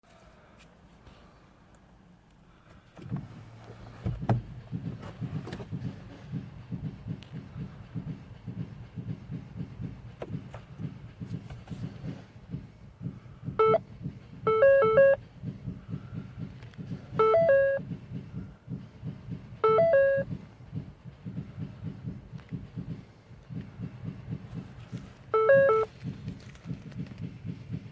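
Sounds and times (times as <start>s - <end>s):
car engine running: 2.9s - 27.9s.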